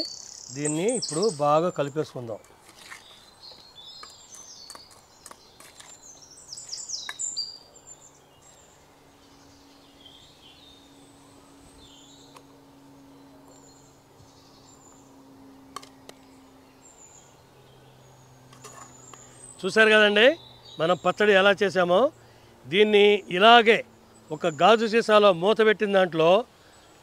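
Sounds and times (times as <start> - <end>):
faint low hum: 0.0 - 27.0
small birds chirping: 0.0 - 27.0.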